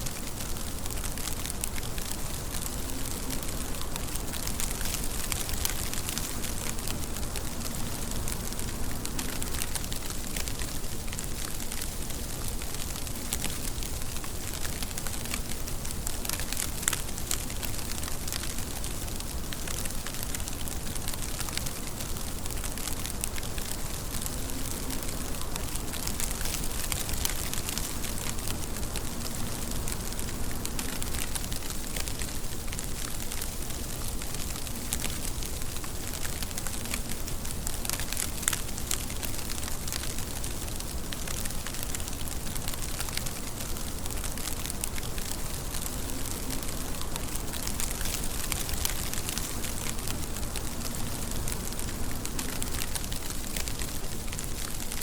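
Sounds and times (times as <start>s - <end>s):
rain hissing: 0.0s - 55.0s
raindrops ticking on a surface: 0.0s - 55.0s.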